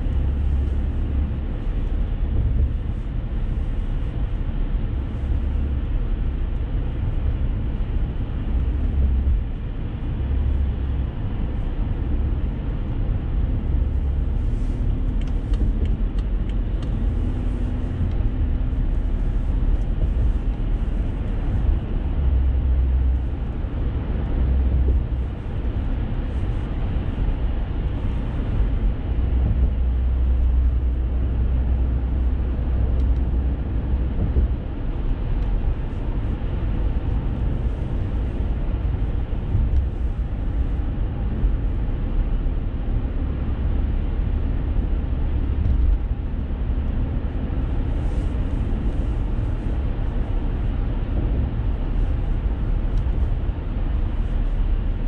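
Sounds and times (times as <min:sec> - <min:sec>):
car road noise from inside: 0:00.0 - 0:55.0.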